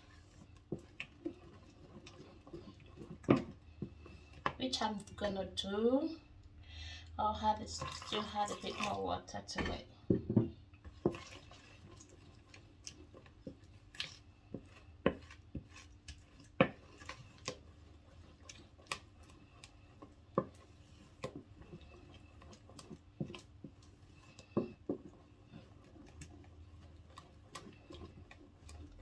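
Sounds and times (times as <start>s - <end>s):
wooden spoon stirring batter: 0.0s - 29.0s.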